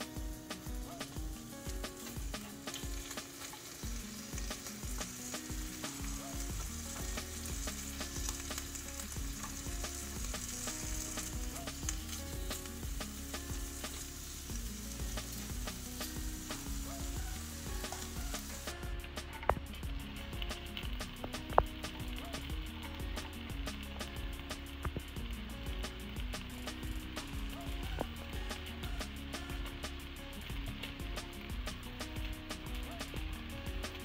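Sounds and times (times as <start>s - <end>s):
meat sizzling in hot oil: 0.0s - 34.0s.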